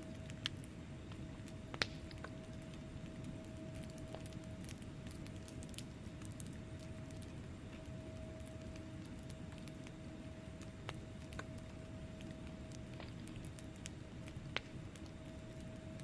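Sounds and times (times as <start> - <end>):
fire low rumble: 0.0 - 16.0
wood fire crackling and popping: 0.0 - 16.0.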